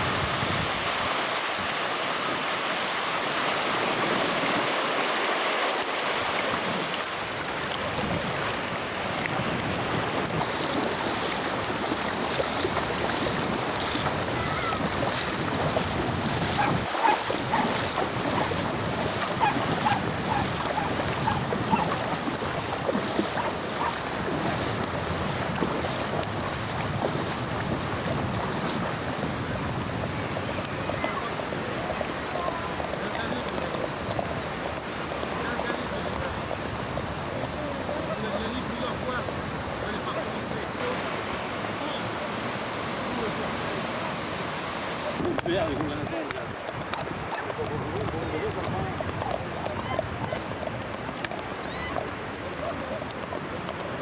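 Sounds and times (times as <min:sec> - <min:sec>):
sea waves breaking on shore: 0:00.0 - 0:54.0
wind buffeting microphone: 0:00.0 - 0:54.0.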